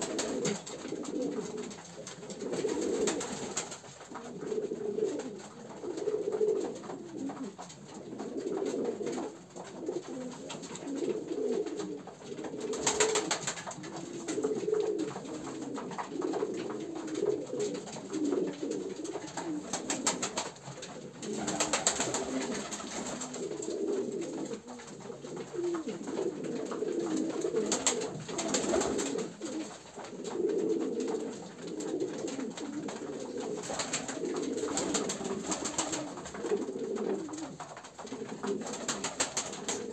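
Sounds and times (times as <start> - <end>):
wings flapping: 0.0 - 4.4, 9.9 - 39.9
pigeons cooing: 0.0 - 39.9.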